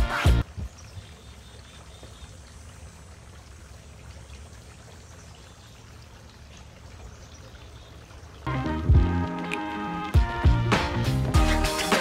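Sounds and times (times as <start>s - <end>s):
fountain water trickling and splashing: 0.0s - 12.0s.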